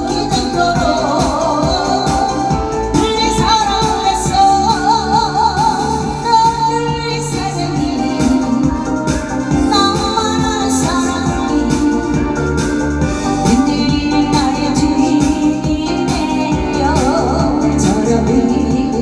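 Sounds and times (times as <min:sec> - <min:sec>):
band with steady beat: 0:00.0 - 0:19.0
woman singing with vibrato: 0:00.0 - 0:19.0.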